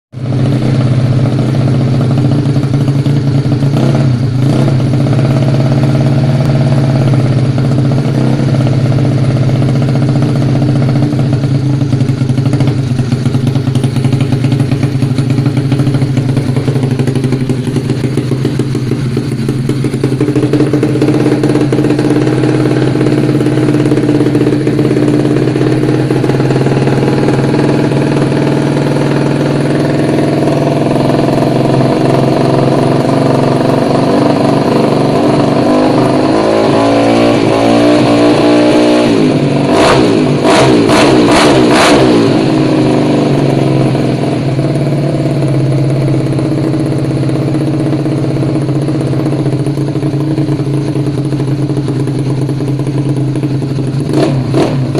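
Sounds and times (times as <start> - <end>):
scooter engine idling: 0.2 - 54.9.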